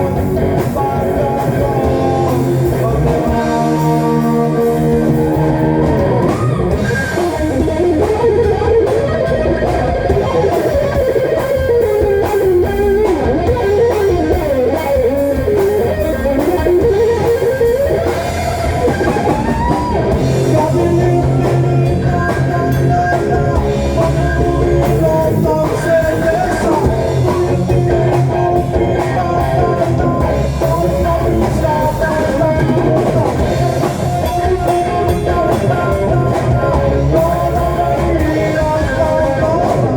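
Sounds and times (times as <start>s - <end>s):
electric guitar lead: 0.0s - 39.9s
rock song over speakers: 0.0s - 39.9s.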